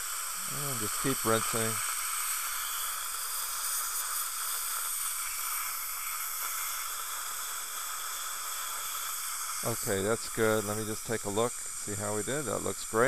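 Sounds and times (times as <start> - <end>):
dental syringe spraying water: 0.0 - 13.0
suction tip hissing: 0.0 - 13.0.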